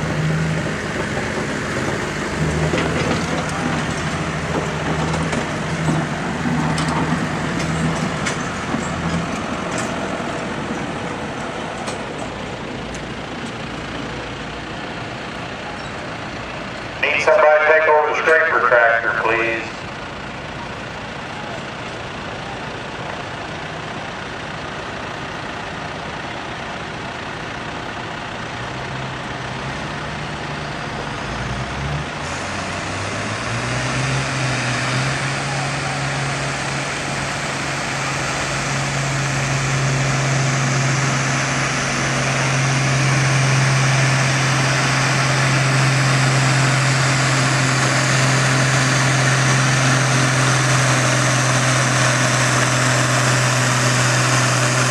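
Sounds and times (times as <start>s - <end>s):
tractor engine working under load: 0.0s - 54.9s.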